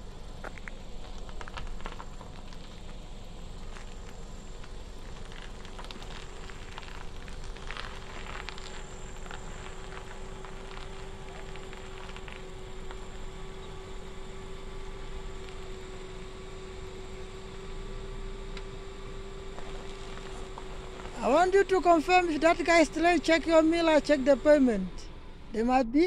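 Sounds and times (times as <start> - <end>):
car engine hum: 0.0 - 26.0
tyres crackling on gritty tarmac: 0.0 - 26.0.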